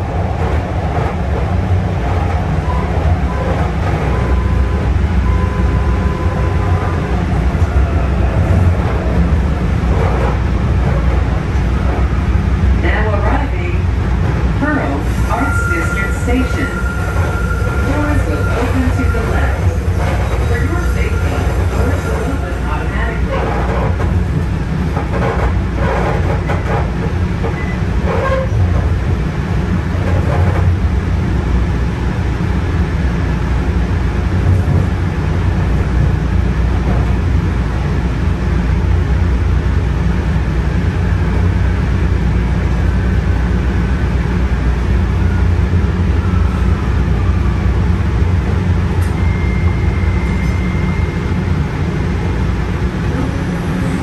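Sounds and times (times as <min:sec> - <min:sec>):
train motor and wheel rumble: 0:00.0 - 0:54.0.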